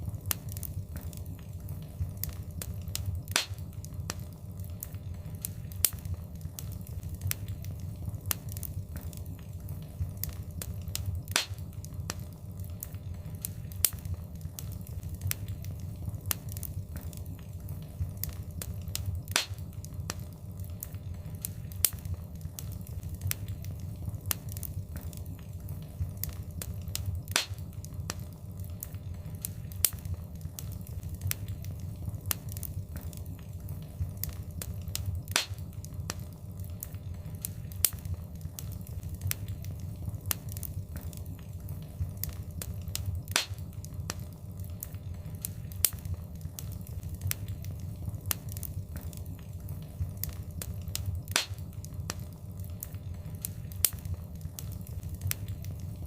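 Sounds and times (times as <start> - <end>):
loud pops from fire: 0.0 - 56.0
low rumble of flames: 0.0 - 56.0
wood fire crackling: 0.0 - 56.0.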